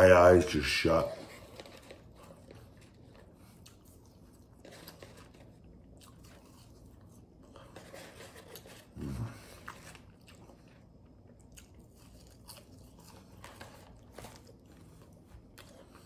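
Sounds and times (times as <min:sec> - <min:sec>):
man chewing fries: 0:01.3 - 0:16.0.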